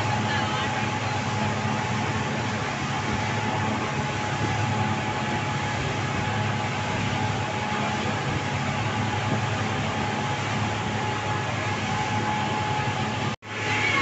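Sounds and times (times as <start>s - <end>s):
rushing wind and water: 0.0s - 14.0s
speedboat engine drone: 0.0s - 14.0s.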